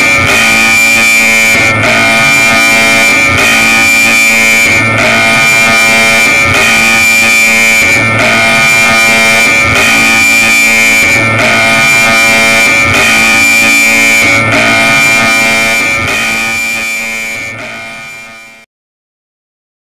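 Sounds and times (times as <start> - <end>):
emergency alert alarm tone: 0.0 - 18.7.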